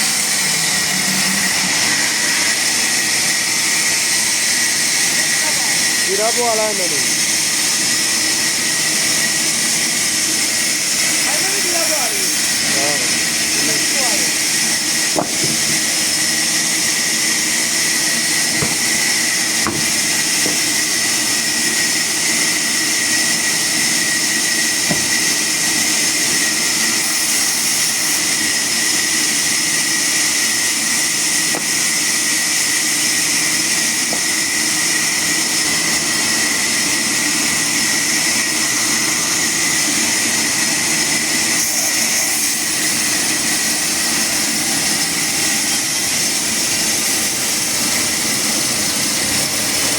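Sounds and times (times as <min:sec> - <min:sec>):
machine whine and hiss: 0:00.0 - 0:49.9.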